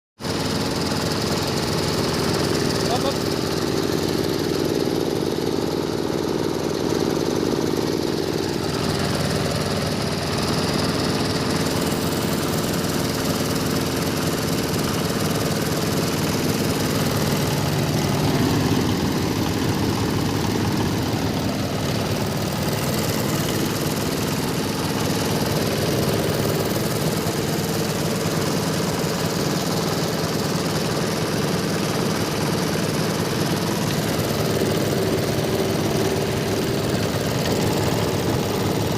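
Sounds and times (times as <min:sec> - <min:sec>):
hammer mill droning: 0:00.3 - 0:38.9.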